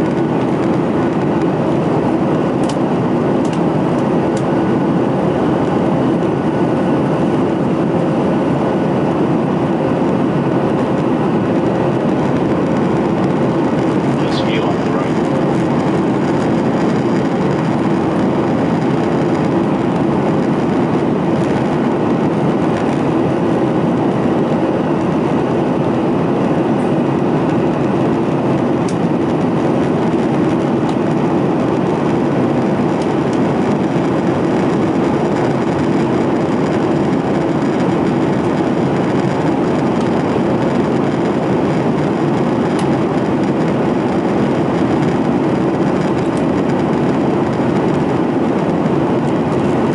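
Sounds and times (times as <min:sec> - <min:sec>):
airplane engine drone: 0:00.0 - 0:49.9.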